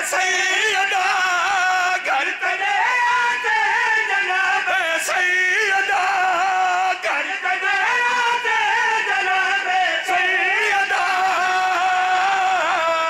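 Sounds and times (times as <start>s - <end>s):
man singing over pa system: 0.0s - 13.0s.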